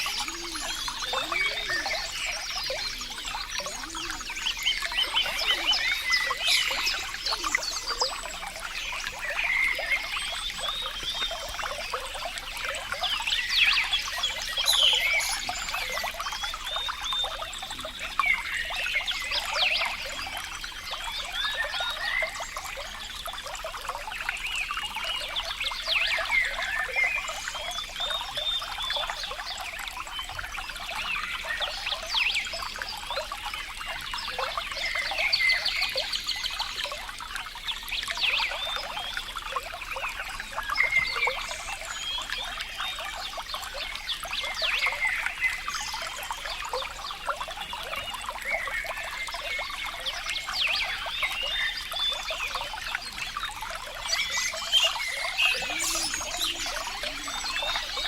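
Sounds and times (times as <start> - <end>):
water trickling and gurgling: 0.0 - 58.0.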